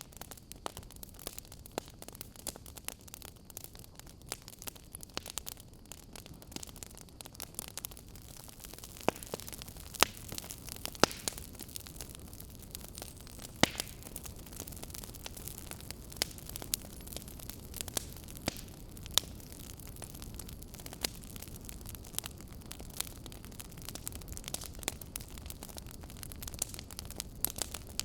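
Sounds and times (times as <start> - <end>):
low rumble of fire: 0.0 - 28.0
wood fire crackling: 0.0 - 28.0.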